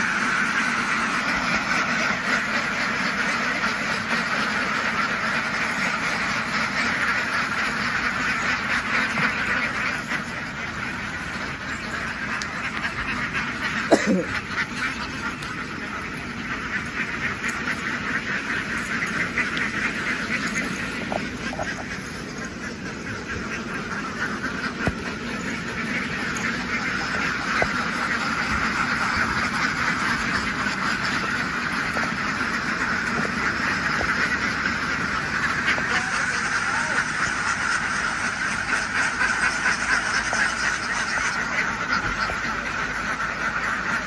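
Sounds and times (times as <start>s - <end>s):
flock of ducks quacking: 0.0s - 44.0s.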